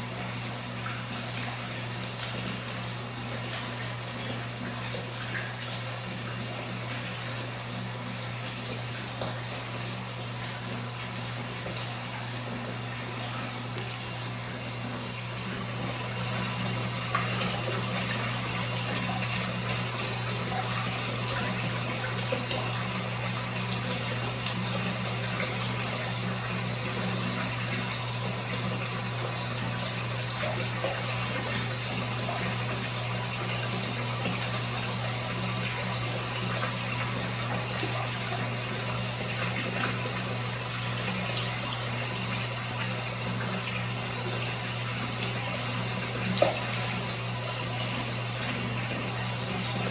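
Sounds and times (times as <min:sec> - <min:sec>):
running water: 0:00.0 - 0:49.9
small water splashes: 0:00.0 - 0:49.9.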